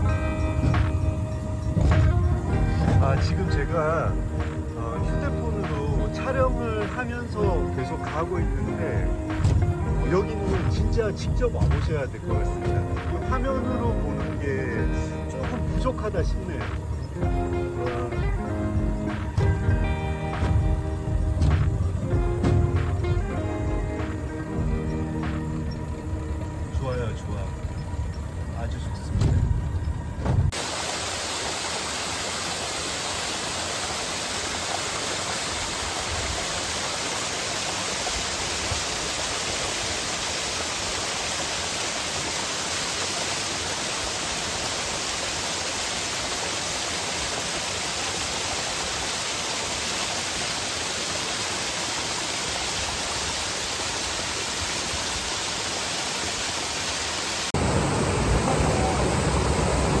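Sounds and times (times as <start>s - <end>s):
stream rushing over rocks: 0.0s - 28.6s, 30.4s - 60.0s.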